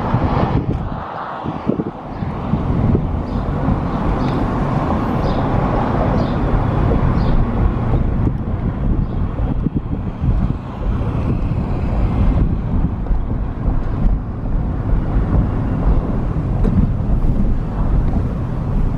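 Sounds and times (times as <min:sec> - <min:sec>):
vehicle rumble: 0:00.0 - 0:18.9
wind noise: 0:00.0 - 0:18.9.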